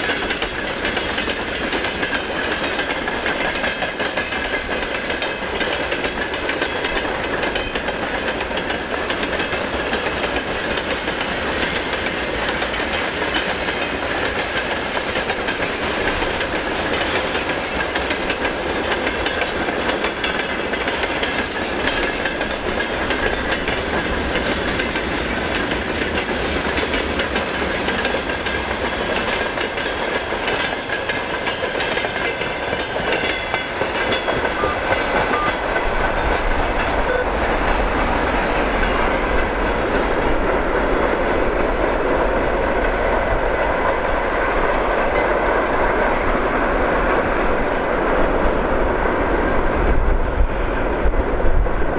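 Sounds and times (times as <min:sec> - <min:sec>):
train wheels clicking over rail joints: 0:00.0 - 0:48.3.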